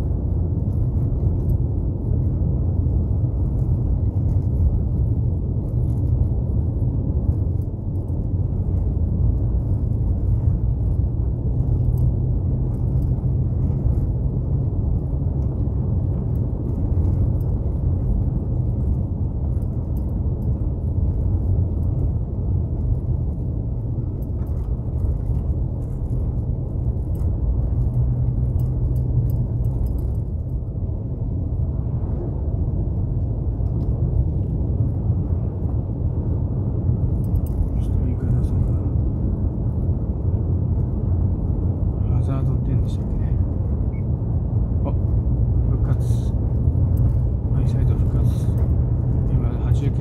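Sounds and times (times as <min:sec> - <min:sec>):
car cabin rumble of tyres and engine: 0:00.0 - 0:50.0.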